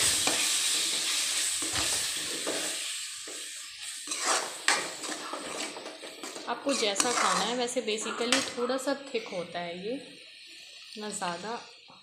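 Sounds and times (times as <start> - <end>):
food sizzling in metal pan: 0.0 - 12.0.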